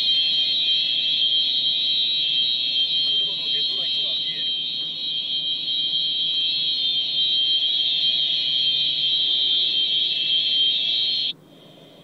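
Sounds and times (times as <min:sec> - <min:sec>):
high-pitched electronic alarm tone: 0:00.0 - 0:11.4.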